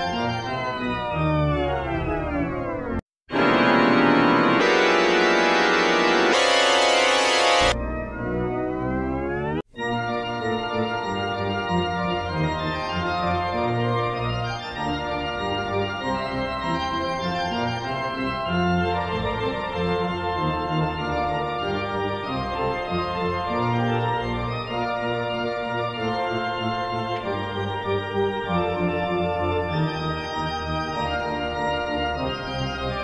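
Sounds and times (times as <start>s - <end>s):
pipe organ music: 0.0s - 1.9s, 3.3s - 33.0s.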